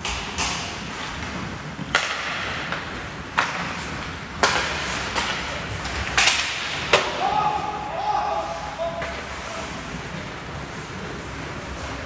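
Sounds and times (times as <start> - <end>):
hockey sticks clacking on ice: 0.0 - 12.0.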